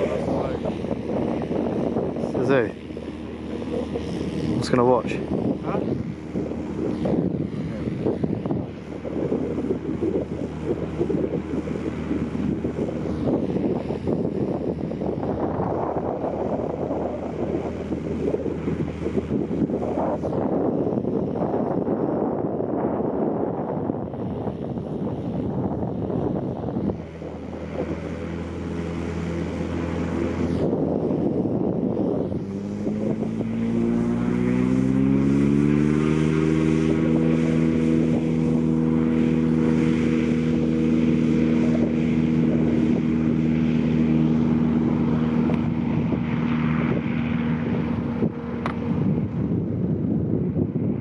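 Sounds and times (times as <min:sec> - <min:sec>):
propeller plane engine: 0:00.0 - 0:51.0
wind rumbling on microphone: 0:00.0 - 0:51.0.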